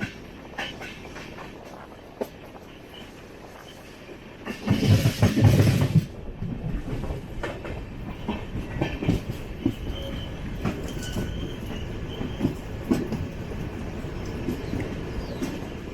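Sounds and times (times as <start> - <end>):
train wheels clicking over rail joints: 0.0 - 15.9.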